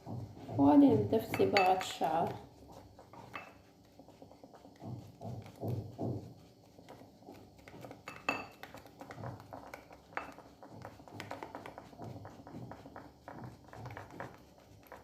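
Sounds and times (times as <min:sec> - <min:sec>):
utensil stirring in a bowl: 0:00.0 - 0:15.0.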